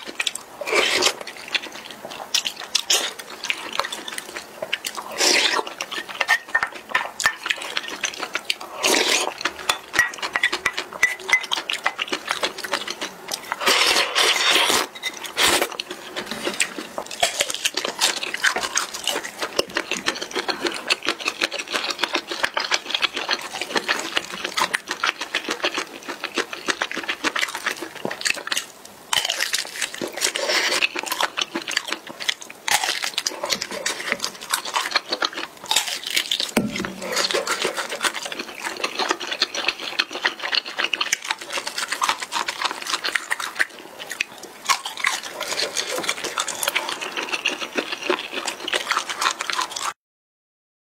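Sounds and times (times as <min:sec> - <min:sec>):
person chewing: 0:00.0 - 0:50.0.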